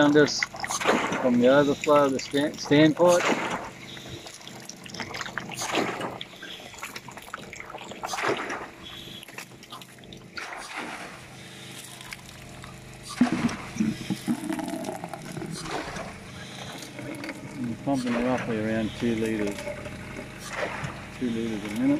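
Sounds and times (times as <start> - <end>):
water pouring from outlet: 0.0 - 8.8, 9.4 - 21.9
water running and splashing: 0.0 - 21.9.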